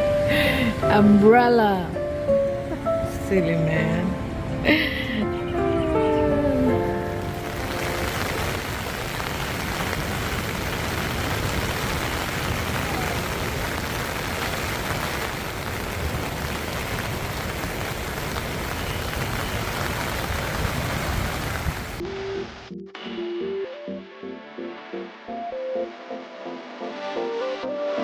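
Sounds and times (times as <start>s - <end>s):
heavy rain falling: 0.0s - 22.6s.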